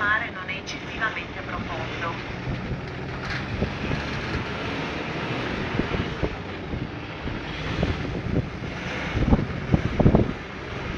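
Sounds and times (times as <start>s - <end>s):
wind buffeting microphone: 0.9s - 10.9s.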